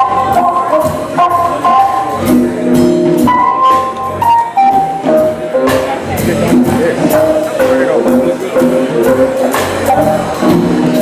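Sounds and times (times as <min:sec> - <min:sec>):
music with drum beat: 0:00.0 - 0:11.0.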